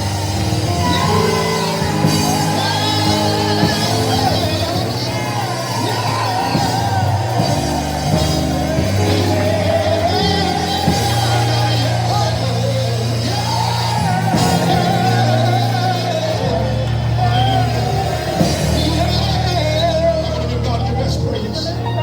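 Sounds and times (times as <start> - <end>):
gospel band playing: 0.0 - 22.0
voices singing and shouting: 0.0 - 22.0.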